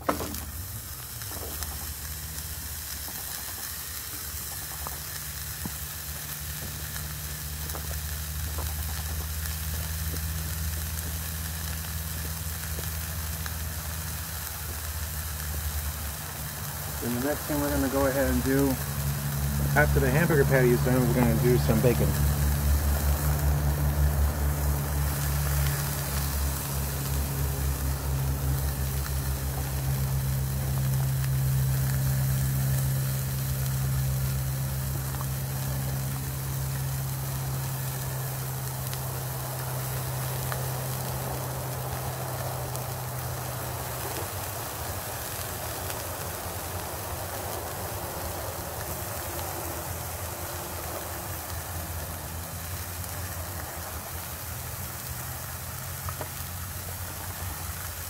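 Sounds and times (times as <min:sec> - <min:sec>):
low engine-like hum: 0:00.0 - 0:58.0
patty sizzling in a frying pan: 0:00.0 - 0:58.0.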